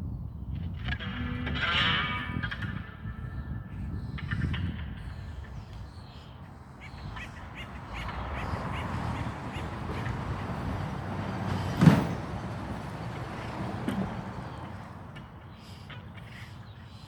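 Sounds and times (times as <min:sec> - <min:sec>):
harsh bird calls: 0:00.7 - 0:17.0.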